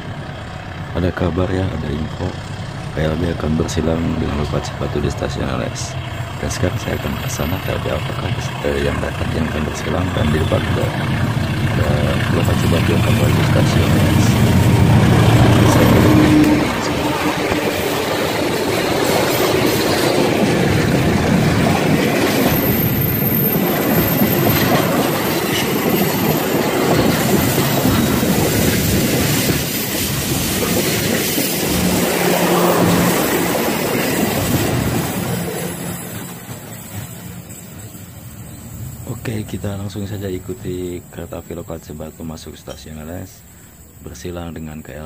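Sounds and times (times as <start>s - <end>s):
locomotive engine: 0.0s - 42.8s
train wheels rattling on rails: 0.0s - 45.0s.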